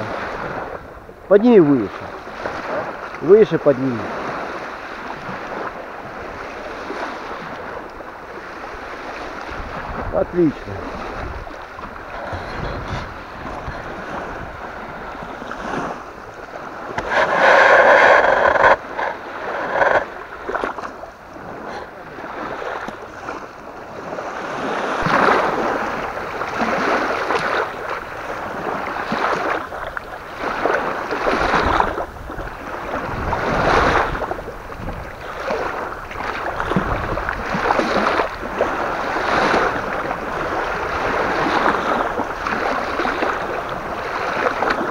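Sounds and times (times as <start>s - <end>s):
waves lapping at the shore: 0.0s - 44.9s.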